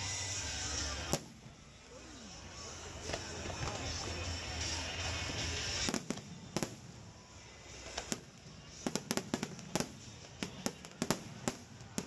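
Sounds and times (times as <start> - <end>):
fireworks cracks and bangs: 0.0 - 1.6, 3.0 - 12.0.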